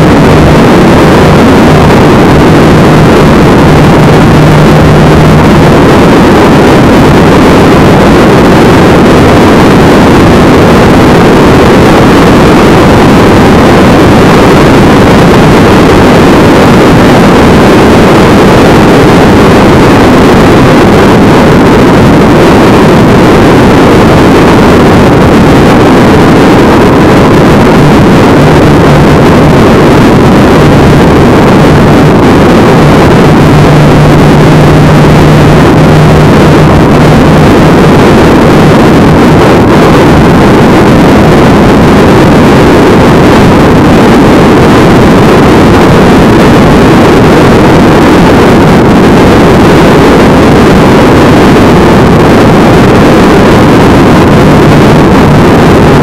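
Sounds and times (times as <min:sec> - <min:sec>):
low engine drone: 0:00.0 - 0:56.0
wind and road noise: 0:00.0 - 0:56.0.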